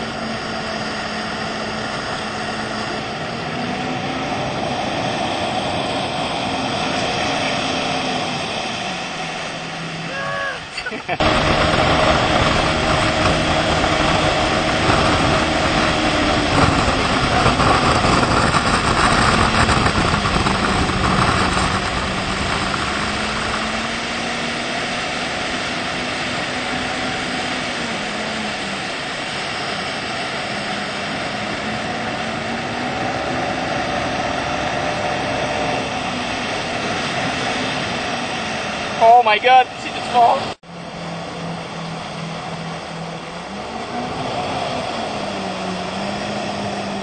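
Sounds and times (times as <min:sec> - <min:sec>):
motorboat engine running: 0:00.0 - 0:47.0
wind and water rushing: 0:00.0 - 0:47.0.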